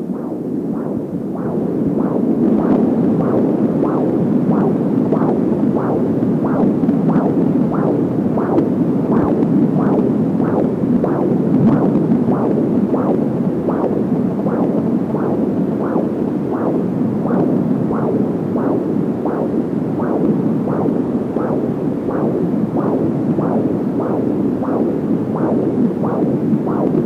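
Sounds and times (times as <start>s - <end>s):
constant hiss: 0.0s - 27.0s
whooshing heartbeat pulse: 0.0s - 27.0s.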